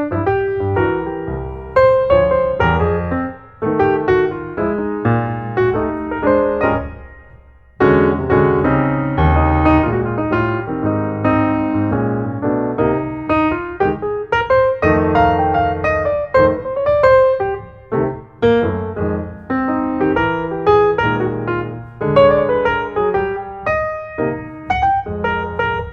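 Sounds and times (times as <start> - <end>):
piano music: 0.0 - 25.9.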